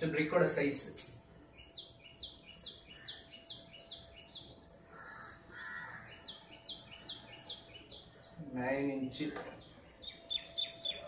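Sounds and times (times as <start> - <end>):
small bird chirping: 1.3 - 11.0.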